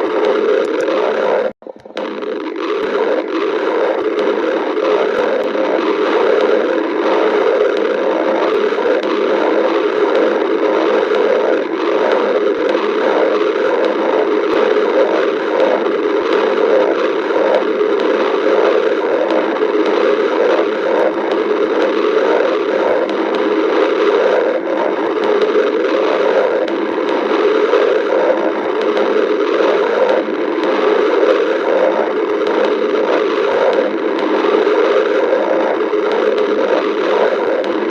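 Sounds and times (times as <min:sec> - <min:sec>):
stomach growling: 0:00.0 - 0:37.9.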